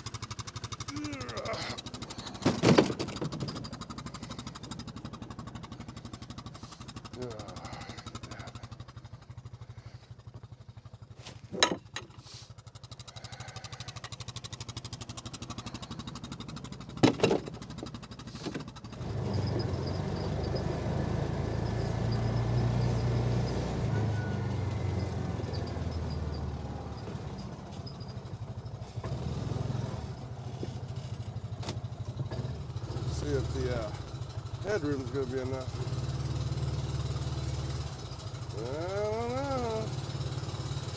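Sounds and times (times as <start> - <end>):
utility vehicle engine running: 0.0 - 40.9.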